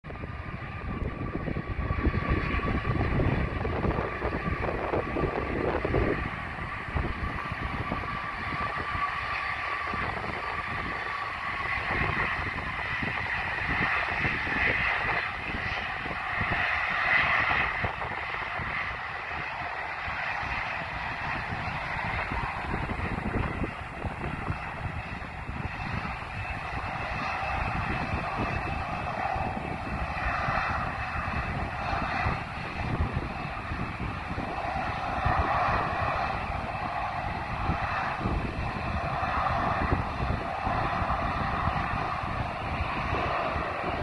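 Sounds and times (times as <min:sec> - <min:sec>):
jet engines whining: 0:00.0 - 0:44.0
wind buffeting microphone: 0:00.0 - 0:44.0.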